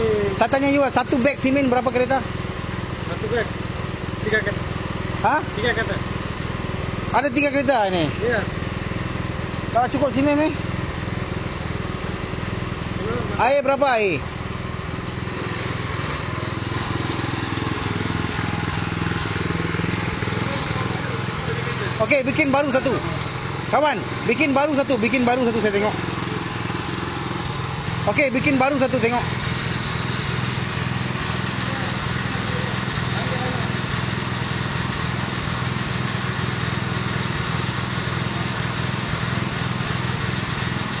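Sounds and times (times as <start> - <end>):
concrete mixer engine running: 0.0 - 41.0.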